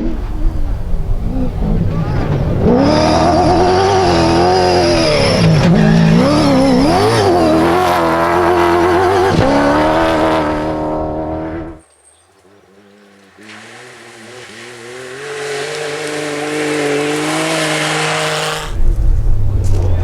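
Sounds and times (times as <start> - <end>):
rally car engine revving: 0.0 - 11.8, 12.5 - 20.0.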